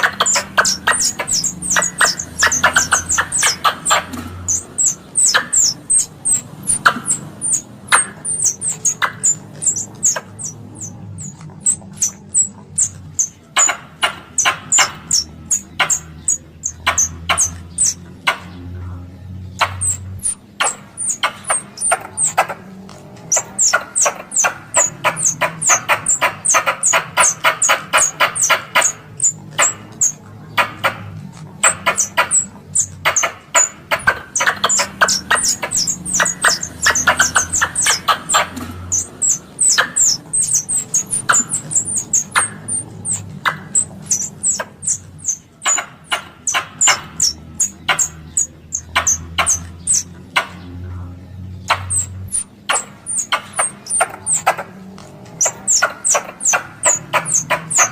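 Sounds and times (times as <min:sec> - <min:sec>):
squirrel call chattering chirps: 0:00.0 - 0:50.9, 0:51.5 - 0:57.9.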